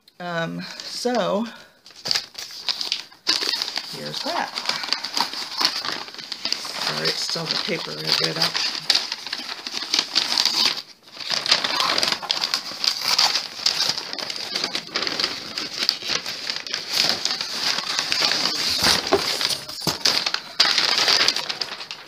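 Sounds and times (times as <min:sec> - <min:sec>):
wrapping paper crinkling: 0:00.7 - 0:22.0.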